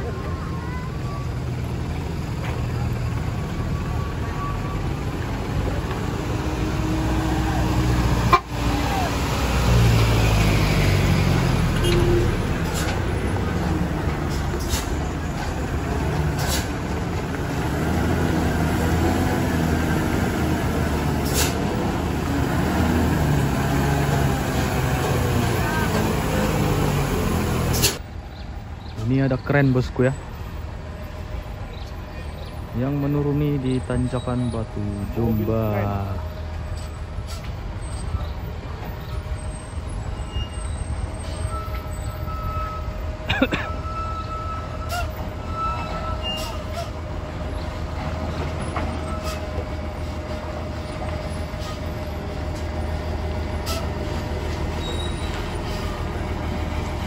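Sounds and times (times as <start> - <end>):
truck diesel engine passing: 0.0 - 57.0.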